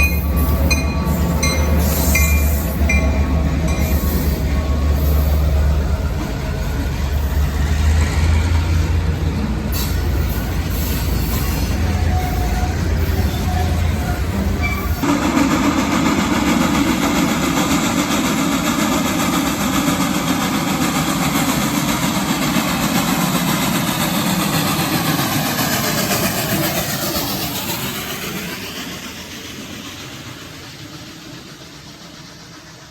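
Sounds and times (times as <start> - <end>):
passing train rushing: 0.0 - 32.9
train engine rumble: 0.0 - 32.9.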